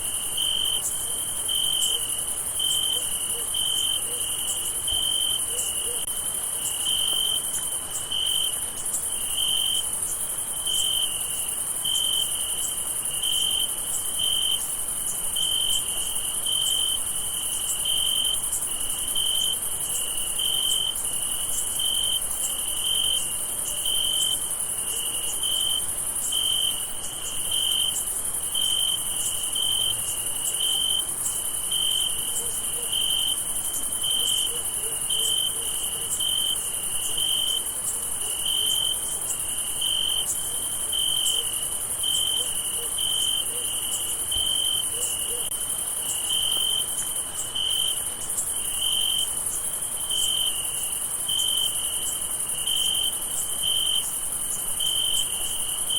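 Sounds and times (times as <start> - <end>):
cricket chirping: 0.0 - 55.9
high-pitched insect chorus: 0.0 - 55.9.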